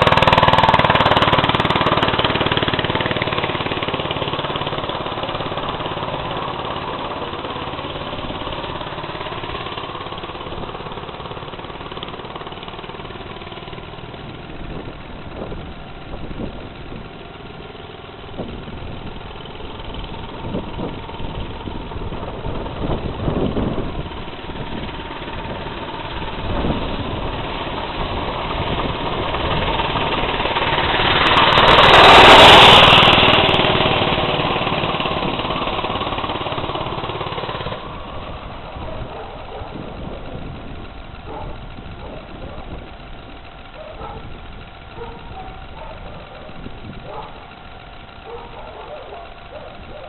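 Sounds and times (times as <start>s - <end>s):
motorized bicycle engine running: 0.0s - 50.0s.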